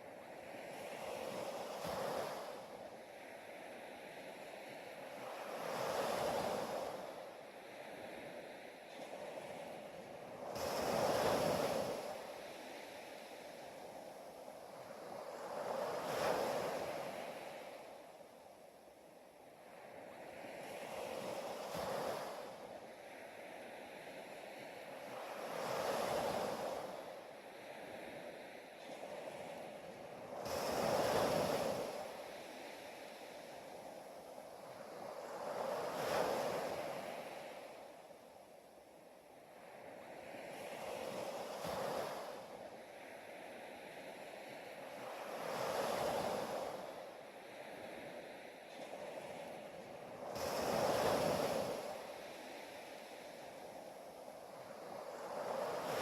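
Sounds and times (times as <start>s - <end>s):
waves washing in: 0.0s - 56.0s.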